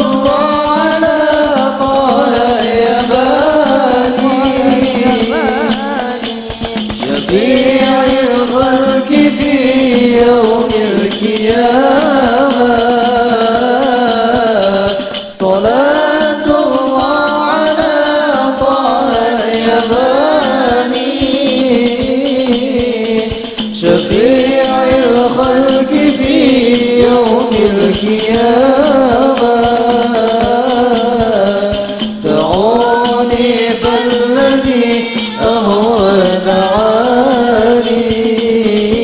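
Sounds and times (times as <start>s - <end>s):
hand percussion: 0.0s - 39.0s
person singing devotional song: 0.0s - 39.0s.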